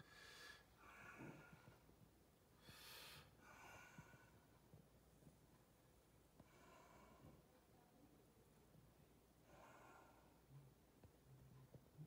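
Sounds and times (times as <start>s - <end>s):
soft breathing: 0.0s - 5.4s, 6.2s - 8.0s, 9.3s - 11.8s.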